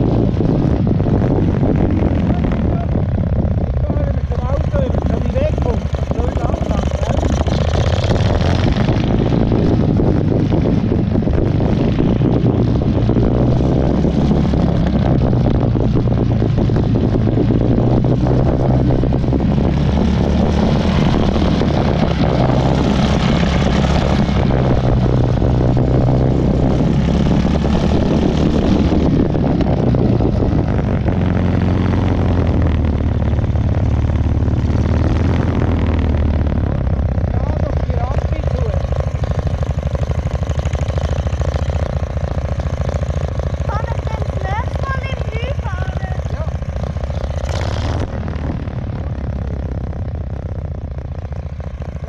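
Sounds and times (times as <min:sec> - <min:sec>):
walking tractor engine running: 0:02.8 - 0:52.0.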